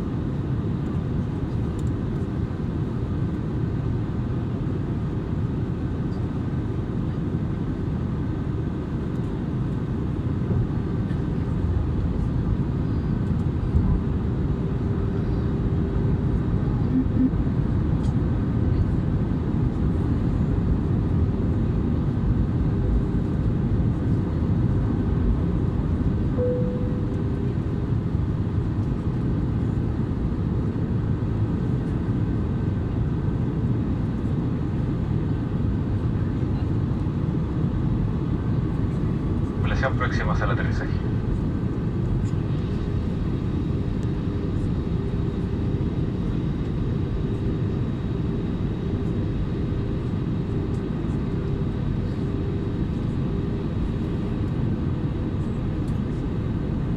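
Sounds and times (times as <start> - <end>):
airplane cabin rumble: 0.0 - 33.5, 34.1 - 56.9.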